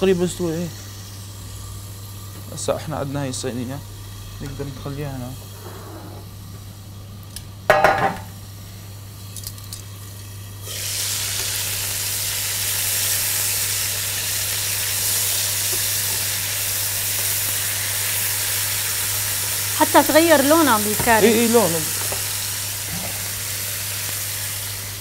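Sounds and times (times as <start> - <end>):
meat sizzling in hot oil: 0.0 - 25.0.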